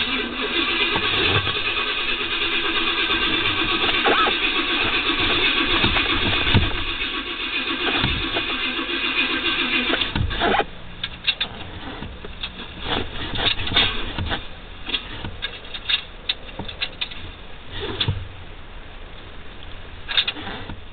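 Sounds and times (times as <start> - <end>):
low hum: 0.0 - 20.9.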